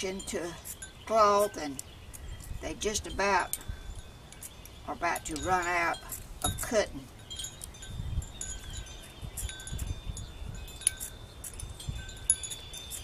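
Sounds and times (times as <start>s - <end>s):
wind chime tinkling: 0.0s - 13.0s.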